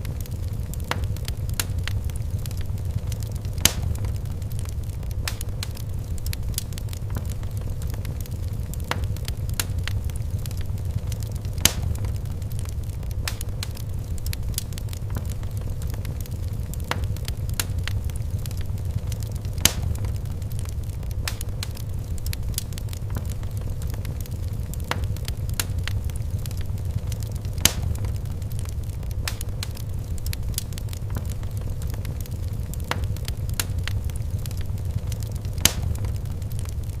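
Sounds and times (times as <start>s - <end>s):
fire pops and snaps: 0.0s - 37.0s
wood fire crackling: 0.0s - 37.0s.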